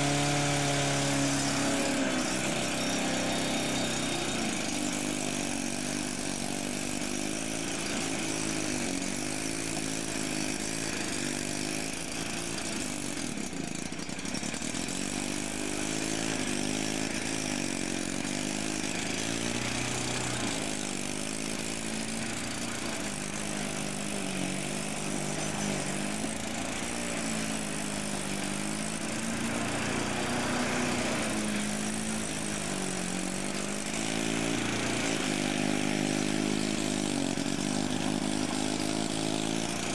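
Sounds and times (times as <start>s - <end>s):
lawnmower engine cutting grass: 0.0s - 39.9s.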